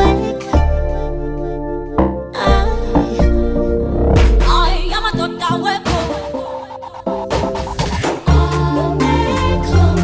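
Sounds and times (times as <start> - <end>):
recorded song with deep bass: 0.0 - 10.0.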